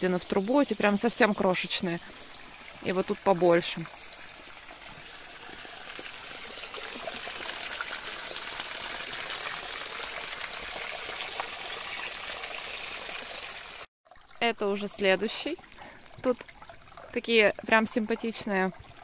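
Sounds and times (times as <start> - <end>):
water pouring and splashing: 0.0 - 19.0.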